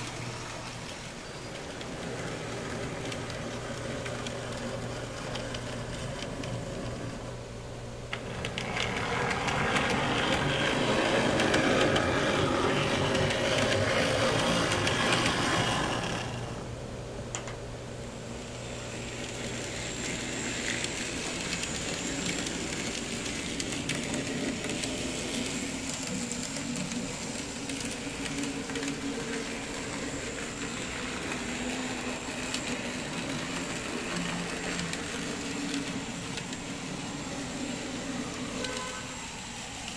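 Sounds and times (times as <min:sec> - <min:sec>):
model trams whirring and rattling: 0:00.0 - 0:39.9.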